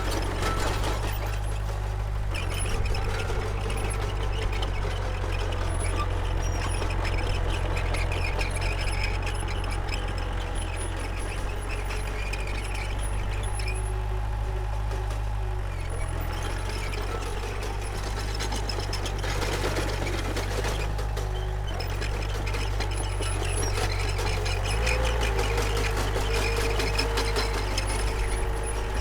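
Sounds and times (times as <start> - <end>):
bulldozer diesel engine: 0.0 - 29.0.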